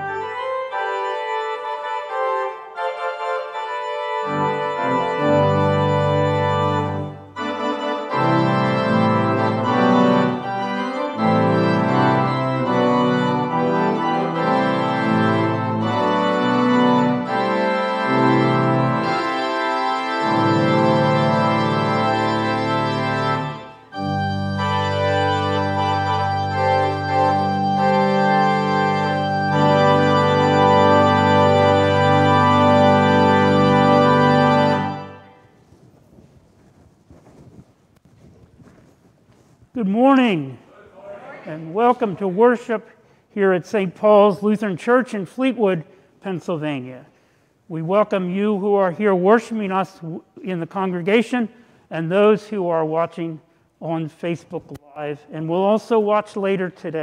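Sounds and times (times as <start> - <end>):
organ playing sustained chords: 0.0 - 35.5, 41.5 - 54.7.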